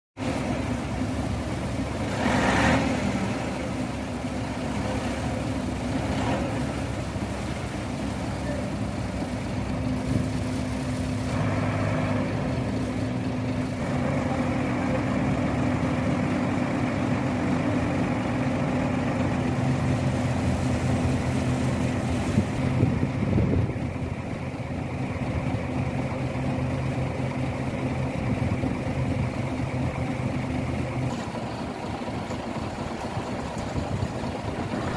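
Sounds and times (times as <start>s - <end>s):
heavy machinery engine running: 0.2s - 34.9s.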